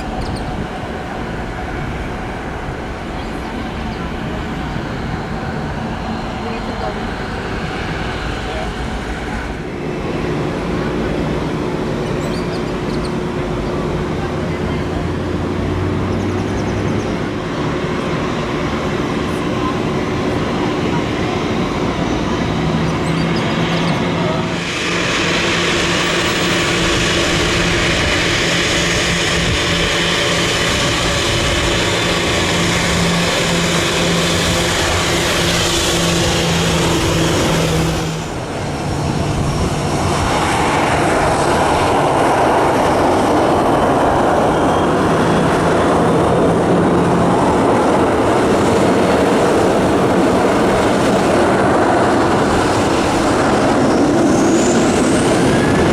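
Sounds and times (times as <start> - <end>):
aircraft engines roaring: 0.0 - 55.9.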